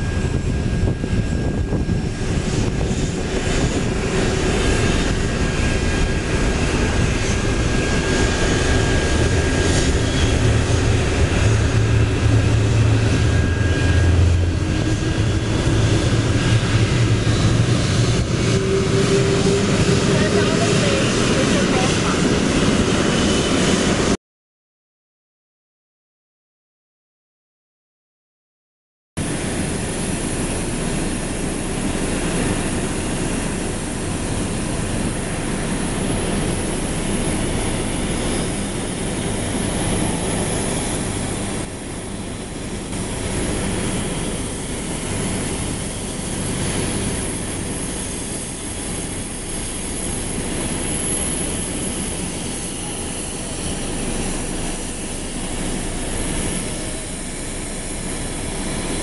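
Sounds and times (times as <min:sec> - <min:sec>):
jet aircraft rumble and hiss: 0:00.0 - 0:24.2, 0:29.2 - 0:59.0.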